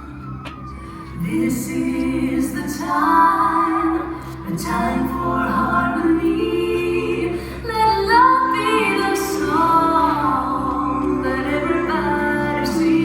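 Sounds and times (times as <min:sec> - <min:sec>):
woman singing slow song: 0:01.1 - 0:13.0.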